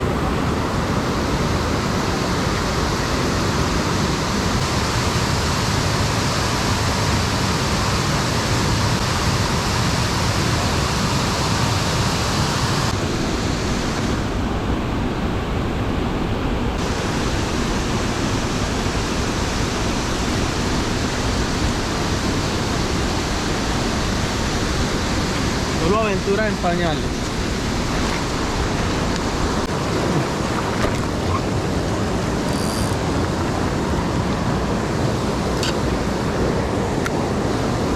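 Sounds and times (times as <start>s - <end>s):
river water flowing over rocks: 0.0s - 37.9s.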